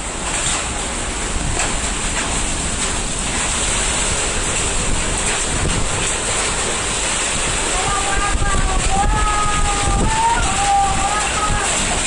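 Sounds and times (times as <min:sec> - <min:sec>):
heavy rain: 0:00.0 - 0:12.0
wind: 0:00.0 - 0:12.0
wind buffeting microphone: 0:00.3 - 0:12.0.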